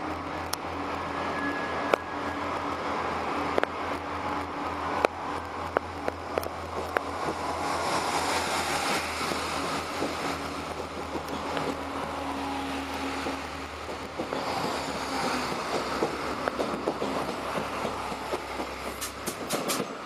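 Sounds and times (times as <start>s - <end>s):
wheel and rail noise: 0.0s - 20.0s.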